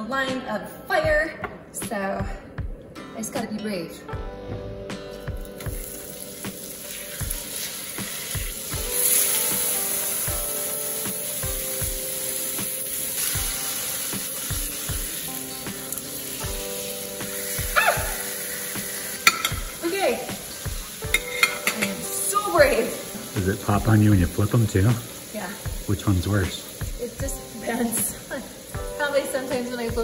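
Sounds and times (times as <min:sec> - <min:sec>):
steaks sizzling in a frying pan: 0:05.3 - 0:30.0.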